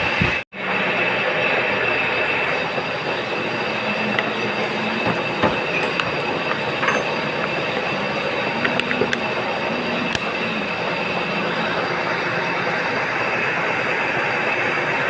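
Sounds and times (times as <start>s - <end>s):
metal lathe whining: 0.0s - 15.0s.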